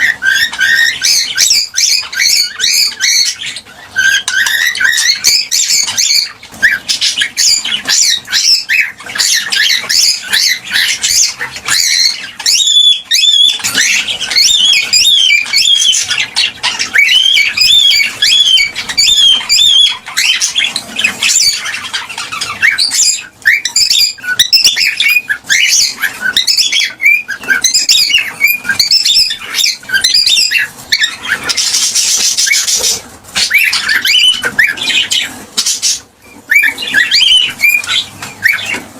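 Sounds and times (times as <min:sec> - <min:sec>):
cockatiel chirping: 0:00.0 - 0:38.9.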